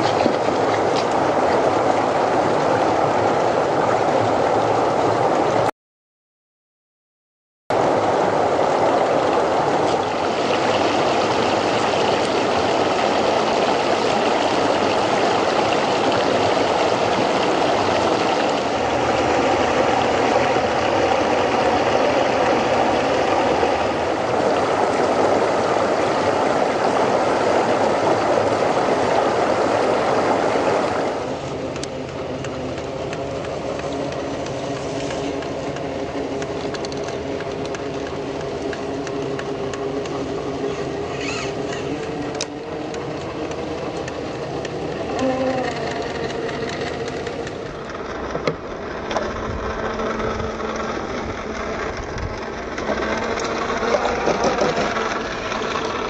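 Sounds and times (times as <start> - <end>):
water rushing over rocks: 0.0 - 5.7, 7.7 - 56.0
electric motor whine: 10.0 - 27.2, 28.4 - 56.0.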